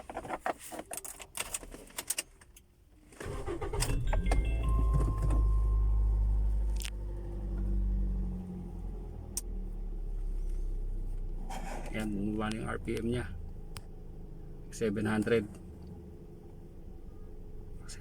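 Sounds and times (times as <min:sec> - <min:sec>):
car engine starting and idling: 0:03.1 - 0:18.0.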